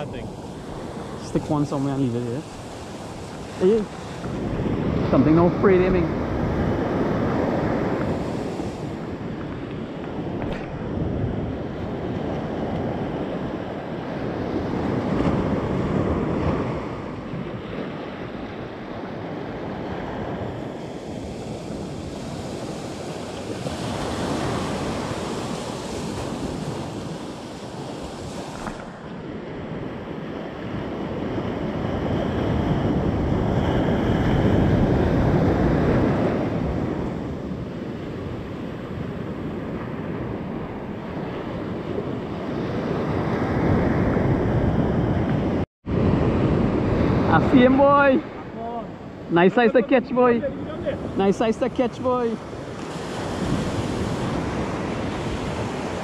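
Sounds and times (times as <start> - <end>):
surf breaking on sandy beach: 0.0 - 56.0
wind on microphone: 0.0 - 56.0.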